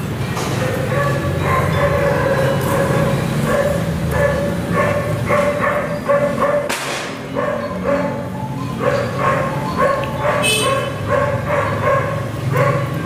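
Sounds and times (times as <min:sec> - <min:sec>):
dog barking: 0:00.5 - 0:13.0.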